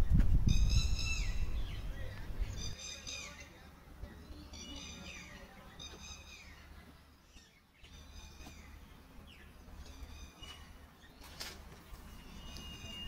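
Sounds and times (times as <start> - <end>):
songbird phrase: 0.5 - 11.4.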